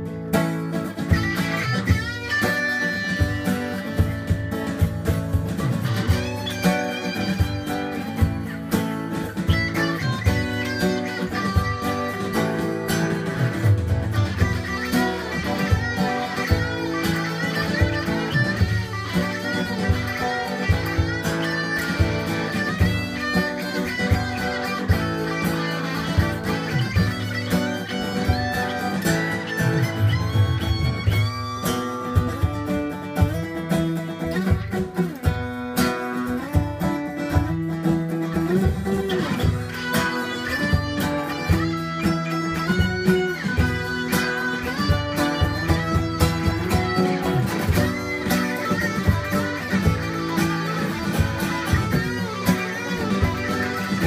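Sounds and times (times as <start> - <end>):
acoustic guitar strumming: 0.0 - 54.0
drum app beat: 0.0 - 54.0
electric guitar through amp: 0.0 - 54.0.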